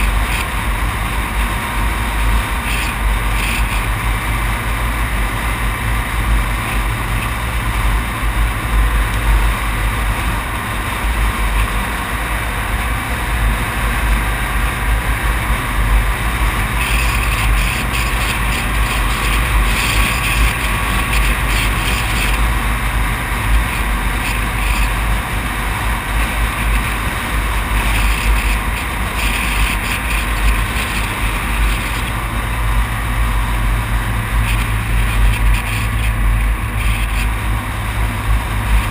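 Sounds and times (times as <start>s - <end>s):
vehicle road and wind noise: 0.0s - 38.9s.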